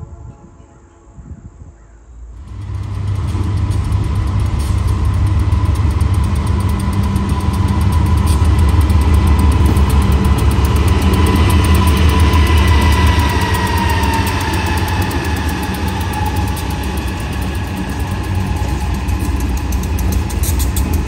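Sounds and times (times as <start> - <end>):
diesel locomotive engines rumbling: 0.0 - 21.0
steady high whine: 1.4 - 21.0.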